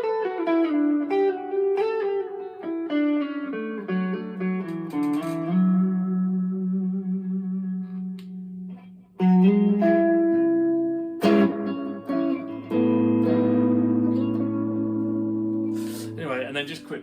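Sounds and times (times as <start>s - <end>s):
overdriven electric guitar chords: 0.0s - 17.0s.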